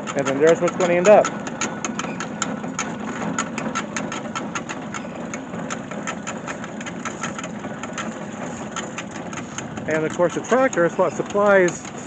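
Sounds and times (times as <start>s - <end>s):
feed grinder rapid clatter: 0.0s - 12.0s
tractor engine humming: 0.0s - 12.0s.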